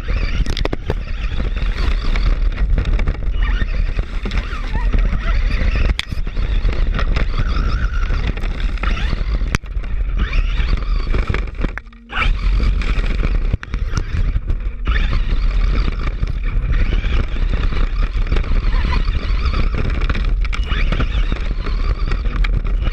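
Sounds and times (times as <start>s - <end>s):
chassis rattling and scraping: 0.0s - 22.9s
electric motor whine: 0.0s - 22.9s.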